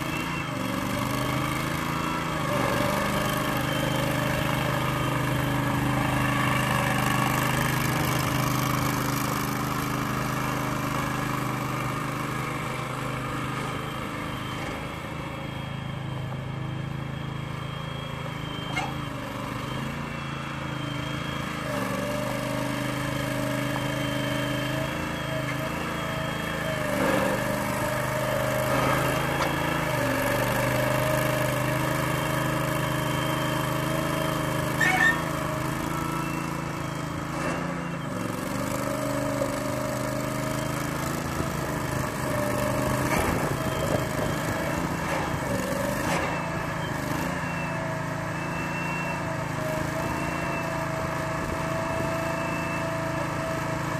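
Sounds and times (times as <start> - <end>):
machine engine running: 0.0 - 53.9.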